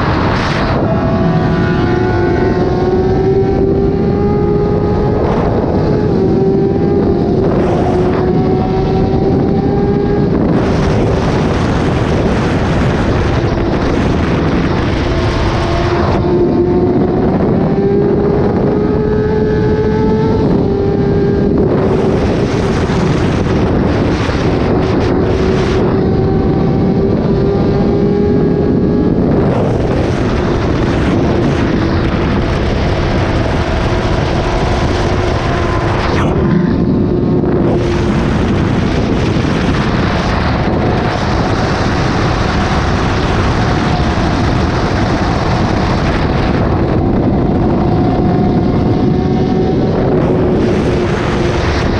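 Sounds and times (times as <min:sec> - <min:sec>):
motorcycle engine cruising: 0:00.0 - 0:51.9
wind on microphone: 0:00.0 - 0:51.9.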